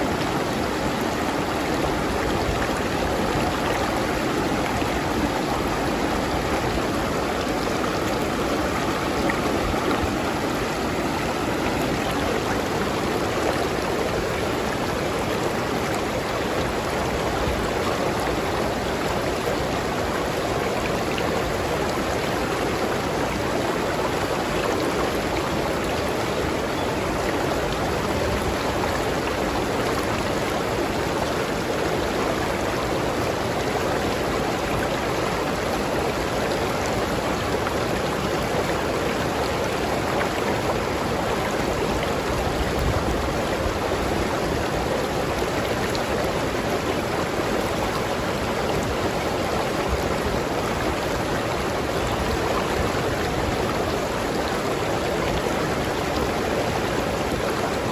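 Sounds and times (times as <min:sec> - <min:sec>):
stream flowing over rocks: 0:00.0 - 0:57.9.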